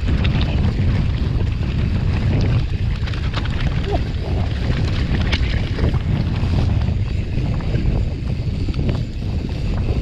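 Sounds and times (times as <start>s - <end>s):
bike clicks and rattles: 0.0s - 10.0s
tyres rolling on dirt: 0.0s - 10.0s
wind buffeting microphone: 0.0s - 10.0s.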